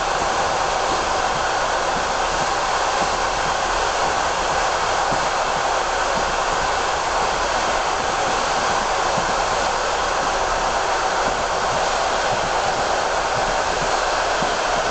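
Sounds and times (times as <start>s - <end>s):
train rushing at speed: 0.0s - 14.9s.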